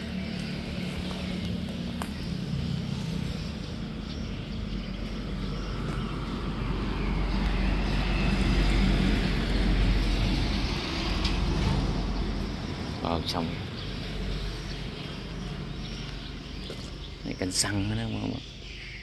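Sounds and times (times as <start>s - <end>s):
vehicle passing: 0.0s - 17.3s.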